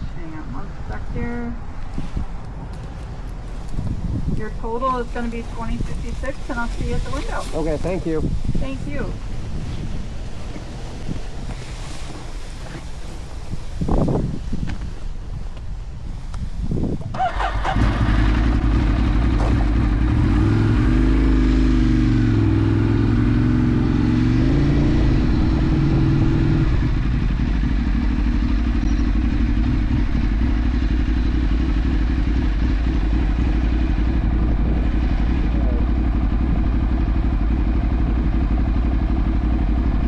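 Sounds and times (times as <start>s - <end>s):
motorcycle engine running: 0.0s - 13.2s, 16.9s - 40.0s.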